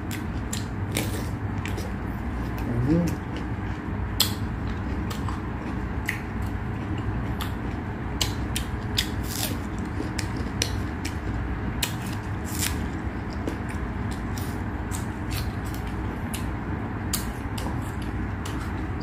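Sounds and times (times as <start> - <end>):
person chewing crunchy food: 0.0 - 19.0
steady low hum: 0.0 - 19.0.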